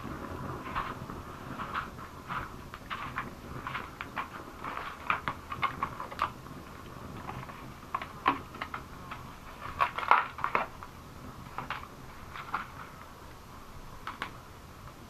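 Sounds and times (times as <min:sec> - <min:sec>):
plastic bag crinkling in wind: 0:00.0 - 0:14.4.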